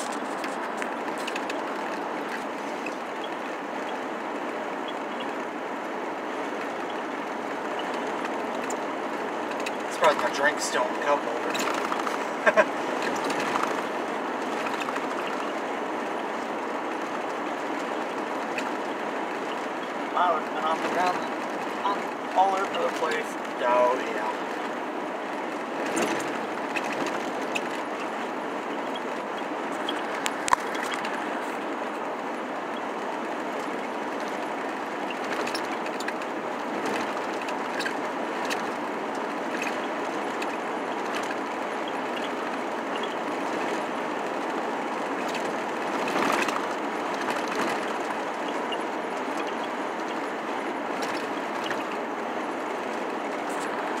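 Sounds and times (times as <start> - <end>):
vehicle road and wind noise: 0.0 - 54.0.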